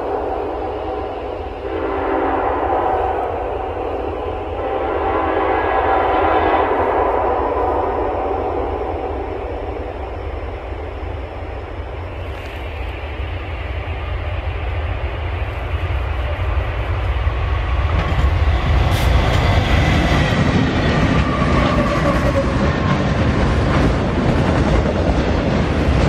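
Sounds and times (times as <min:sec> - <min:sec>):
diesel locomotives passing: 0:00.0 - 0:26.0.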